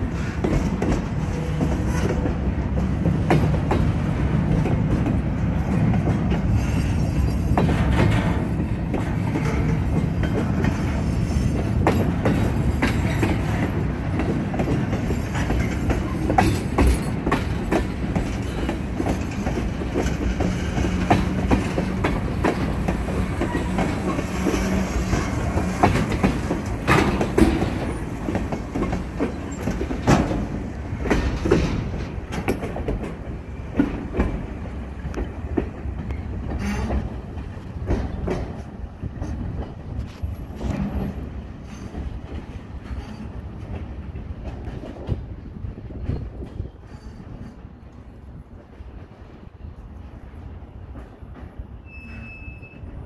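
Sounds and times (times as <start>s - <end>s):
wheels clacking over rail joints: 0.0s - 49.1s
train wheels rumbling on rails: 0.0s - 53.0s.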